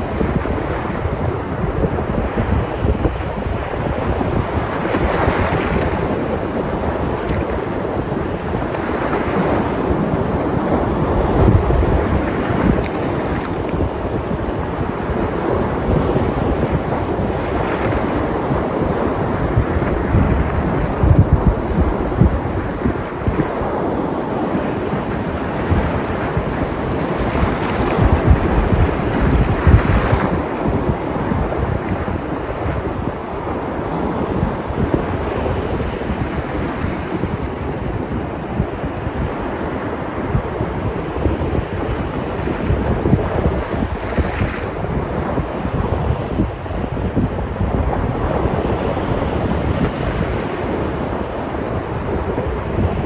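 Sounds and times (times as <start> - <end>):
sea surf washing ashore: 0.0 - 53.0
wind rumbling on microphone: 0.0 - 53.0.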